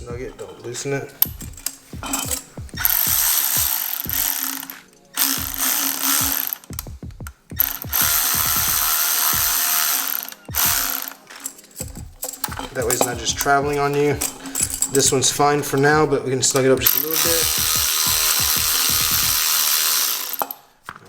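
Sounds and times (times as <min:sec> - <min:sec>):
loud steady hiss: 0:00.0 - 0:20.9
ratchet wrench clicking: 0:01.2 - 0:06.9, 0:07.5 - 0:20.6.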